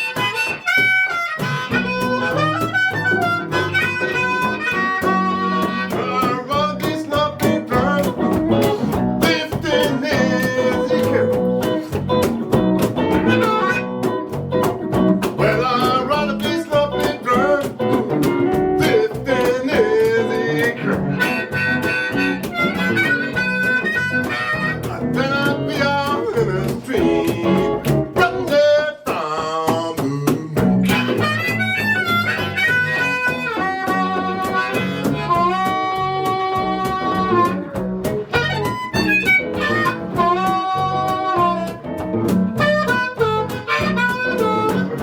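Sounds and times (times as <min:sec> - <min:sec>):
harmonica bending notes: 0:00.0 - 0:45.0
rhythmic guitar: 0:00.0 - 0:45.0.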